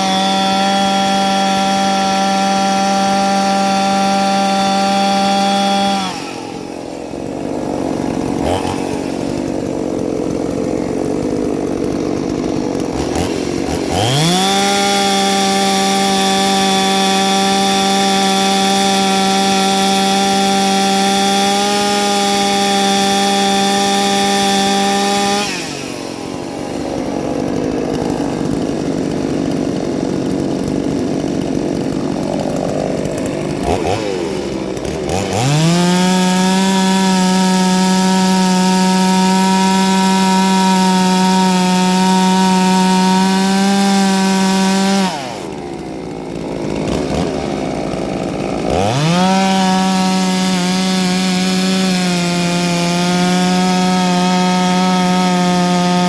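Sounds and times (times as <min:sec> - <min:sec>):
chainsaw at full throttle: 0:00.0 - 0:56.0.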